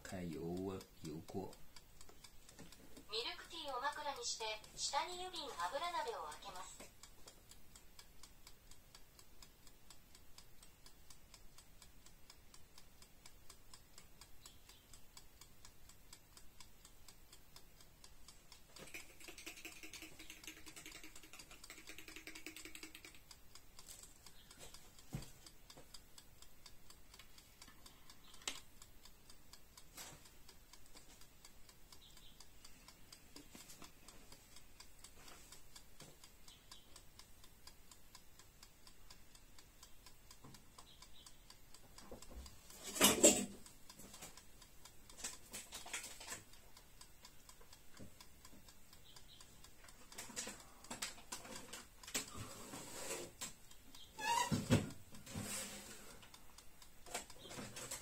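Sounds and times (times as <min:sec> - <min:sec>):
sharp clicks: 0:00.0 - 0:58.0.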